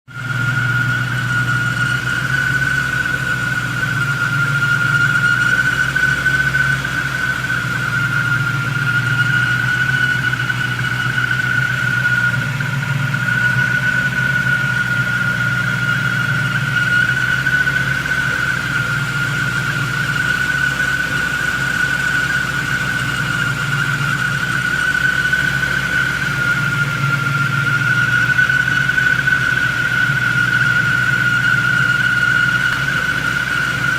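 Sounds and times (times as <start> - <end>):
car engine idling: 0.0 - 33.9
high-pitched engine whine: 0.1 - 33.9.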